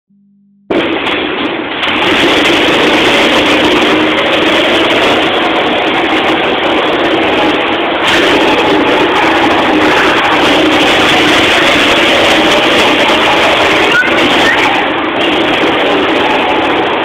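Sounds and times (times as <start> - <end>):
go-kart engines running: 0.7 - 17.0.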